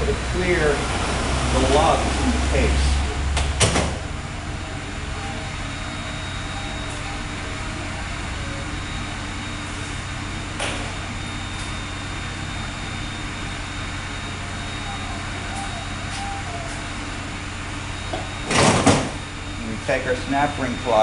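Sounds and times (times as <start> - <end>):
workshop hum and hiss: 0.0 - 21.0.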